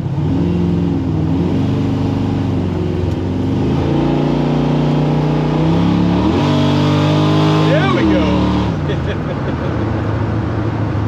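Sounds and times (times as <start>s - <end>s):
car engine from inside cab: 0.0s - 11.0s.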